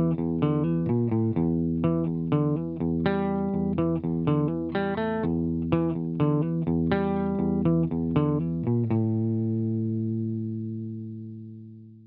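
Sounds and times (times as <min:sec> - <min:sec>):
electric guitar picked notes: 0:00.0 - 0:11.8.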